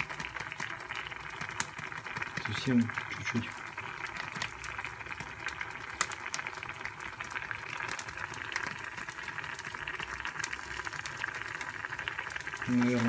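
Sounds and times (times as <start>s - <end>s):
small crackles: 0.0s - 13.0s
stew bubbling in a pot: 0.0s - 13.0s.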